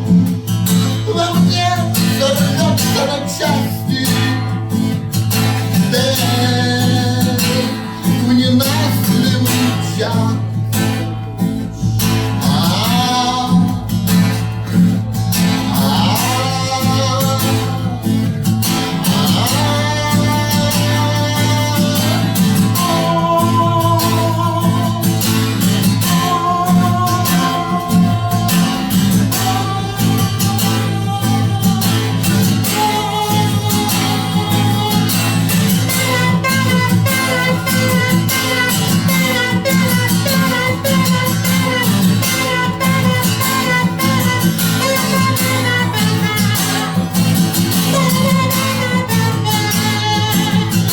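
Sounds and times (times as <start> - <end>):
acoustic guitar music: 0.0 - 50.9.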